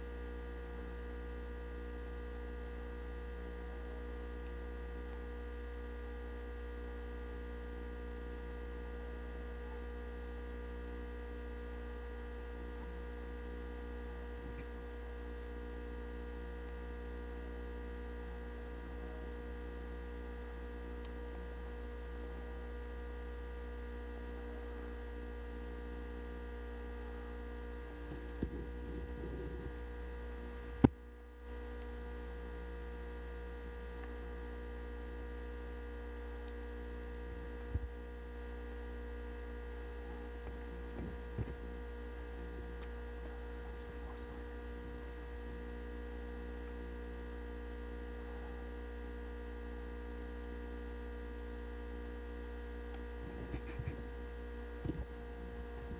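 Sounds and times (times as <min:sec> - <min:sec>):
electrical hum: 0:00.0 - 0:55.9
faint whine of steady tones: 0:00.0 - 0:55.9.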